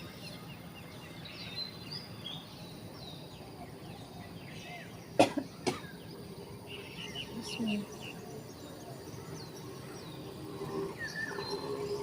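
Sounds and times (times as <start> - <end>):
faint birdsong: 0.0 - 12.0
outdoor background noise: 0.0 - 12.0.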